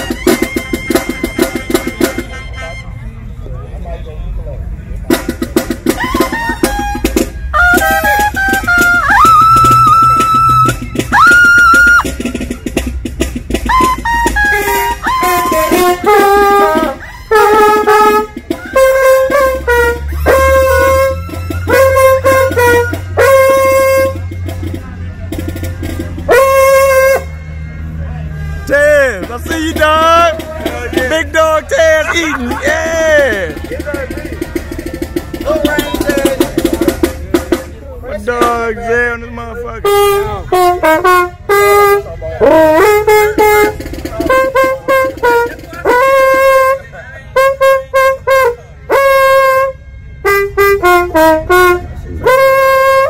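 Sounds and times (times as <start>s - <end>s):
marching band brass: 0.0s - 3.0s, 5.0s - 38.6s, 39.8s - 53.0s
mellophone playing punchy riffs: 0.0s - 3.2s, 5.1s - 53.0s.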